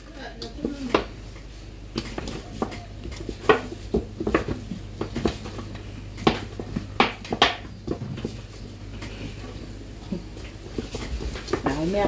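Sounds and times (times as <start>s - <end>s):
dough slapping metal bowl: 0.0s - 8.6s, 10.4s - 12.0s.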